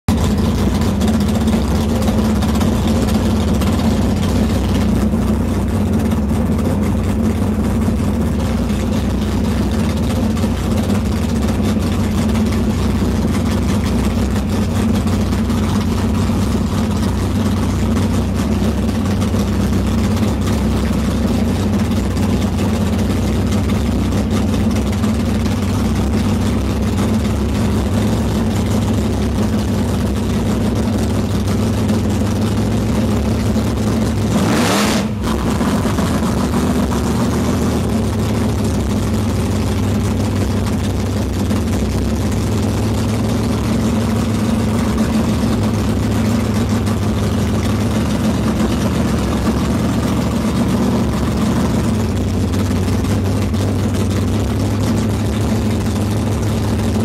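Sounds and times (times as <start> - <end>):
car engine running steadily: 0.0 - 57.0.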